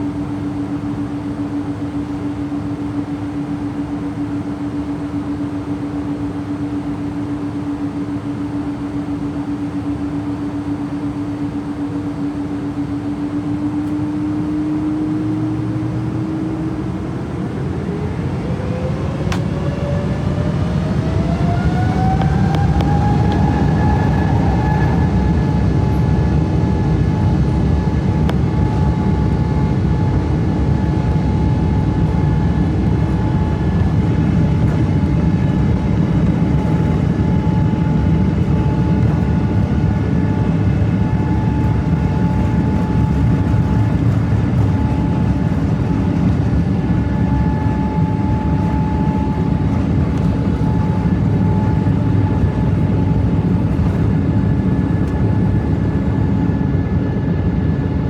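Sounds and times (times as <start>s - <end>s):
jet engine cabin rumble: 0.0s - 58.0s
jet engine whine: 0.0s - 58.0s.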